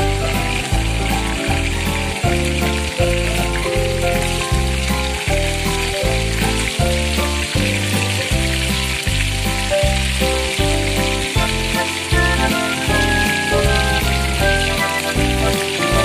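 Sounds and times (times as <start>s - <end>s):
background music with bass line: 0.0s - 16.0s
chicken wings sizzling in oil: 0.0s - 16.0s.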